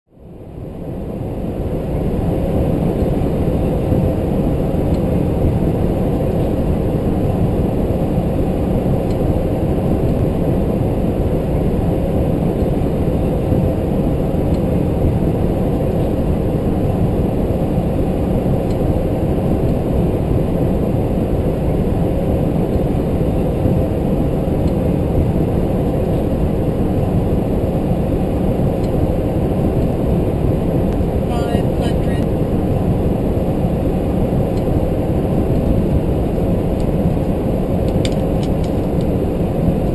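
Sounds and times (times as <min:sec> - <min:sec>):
airflow and engine rumble in cockpit: 0:00.1 - 0:39.9.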